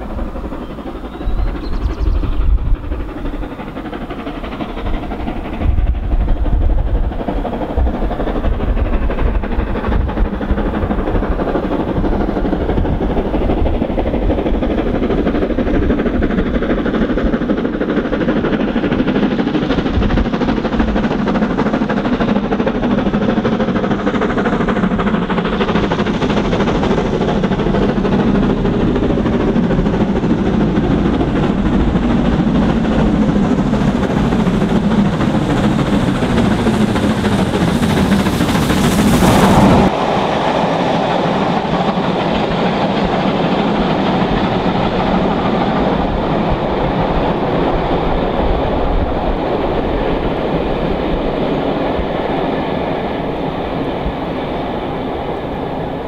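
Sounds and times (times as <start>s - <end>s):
steam locomotive exhaust: 0.0s - 56.0s.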